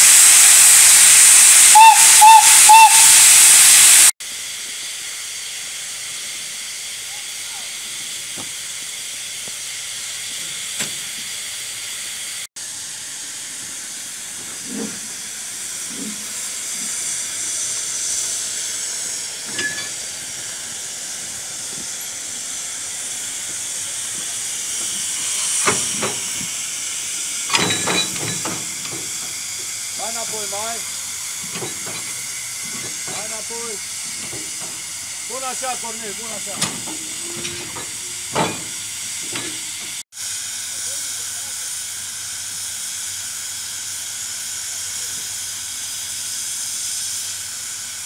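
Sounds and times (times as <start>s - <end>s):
steam locomotive venting steam: 0.0s - 48.0s.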